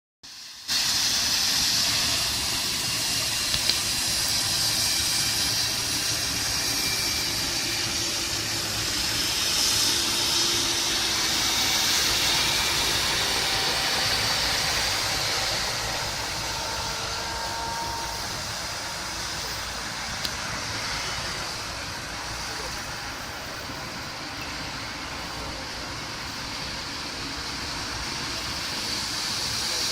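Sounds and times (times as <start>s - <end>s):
loud hiss: 0.3s - 29.9s
combine harvester engine hum: 0.7s - 29.9s.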